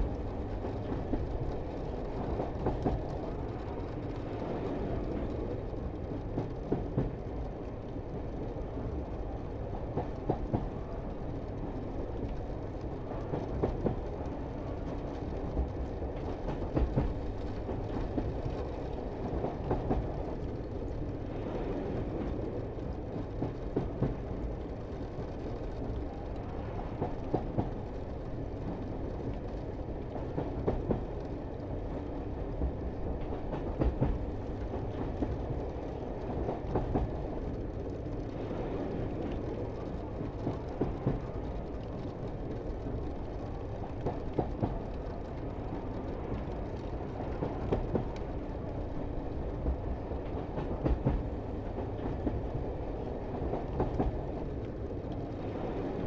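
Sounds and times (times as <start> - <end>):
cog railway train rumbling: 0.0 - 56.0
wheels clicking on track: 0.0 - 56.0.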